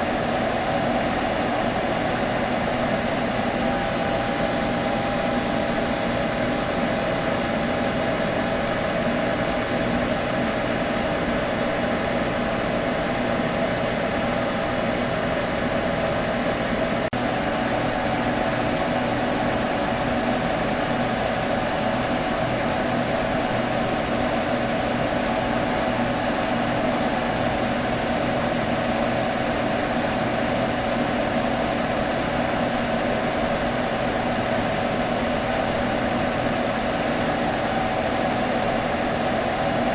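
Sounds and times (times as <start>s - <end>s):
computer fan humming: 0.0s - 39.9s.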